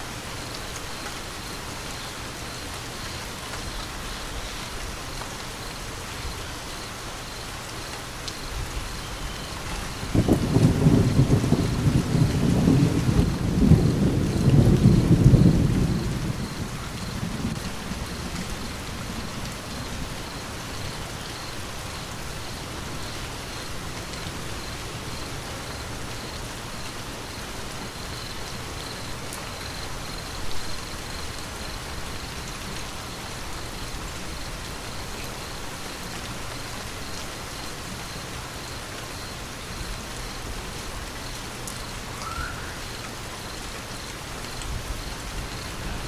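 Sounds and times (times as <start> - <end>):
rain pattering on surfaces: 0.0 - 46.0.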